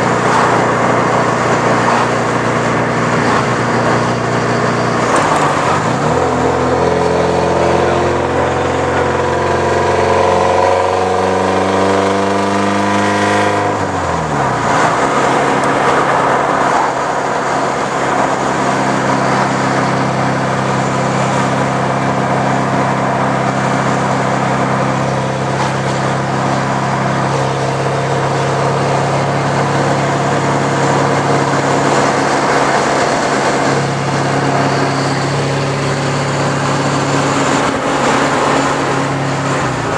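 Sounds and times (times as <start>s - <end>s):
car engine through straight pipe: 0.0s - 39.9s.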